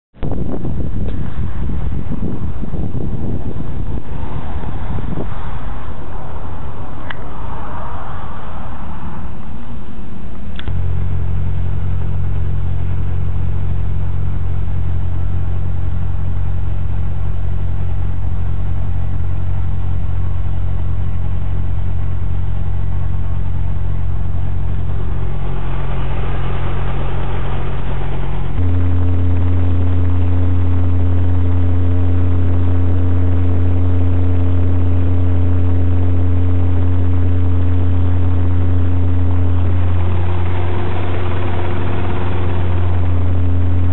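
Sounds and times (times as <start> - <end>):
helicopter engine and rotor drone: 0.8 - 43.9.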